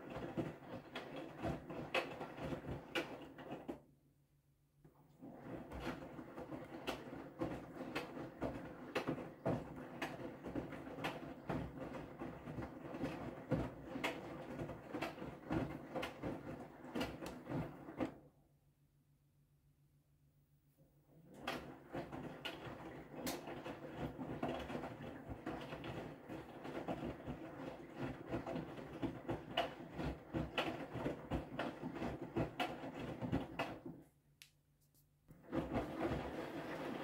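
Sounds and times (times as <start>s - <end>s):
washing machine drum tumbling: 0.0s - 3.7s, 5.2s - 18.2s, 21.3s - 34.0s, 35.4s - 37.0s.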